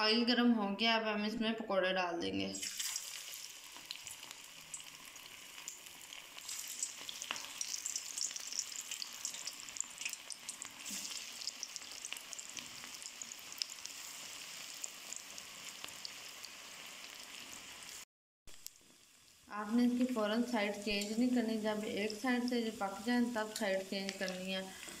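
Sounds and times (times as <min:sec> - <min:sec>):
food deep-frying in oil: 0:02.5 - 0:25.0.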